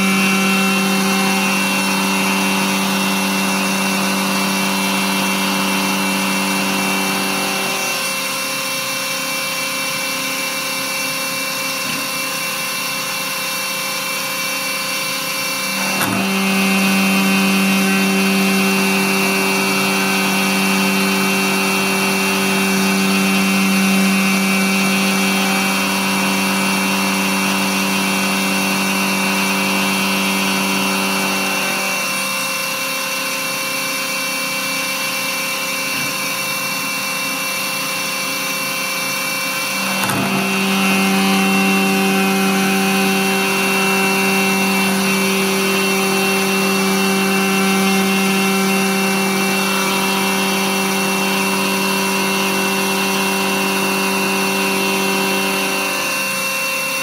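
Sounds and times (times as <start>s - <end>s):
milling spindle hum and whine: 0.0s - 57.0s.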